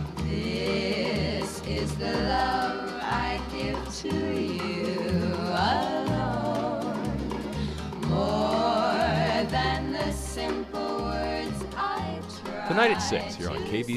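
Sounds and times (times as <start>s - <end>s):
instrumental backing: 0.0s - 13.9s
person singing with vibrato: 0.0s - 13.9s.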